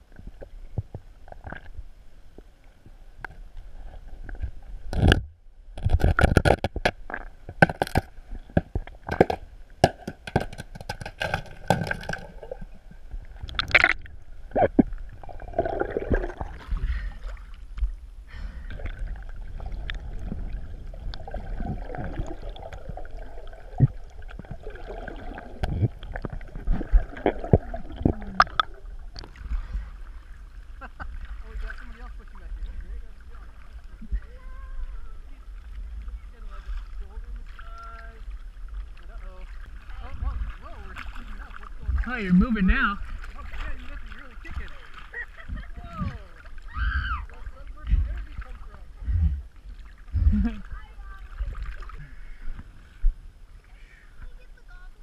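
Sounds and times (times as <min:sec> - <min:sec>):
water sloshing and gurgling: 0:00.0 - 0:55.0.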